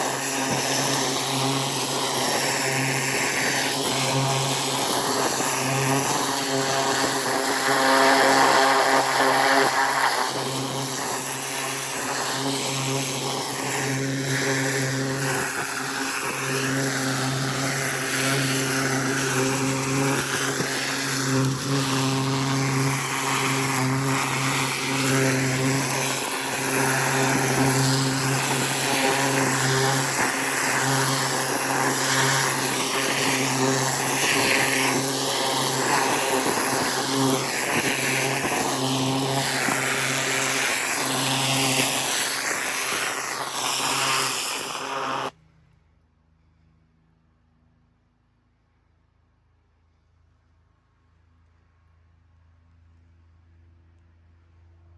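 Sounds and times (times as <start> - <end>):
pressure washer motor humming: 0.0 - 45.3
water hissing from nozzle: 0.0 - 45.3.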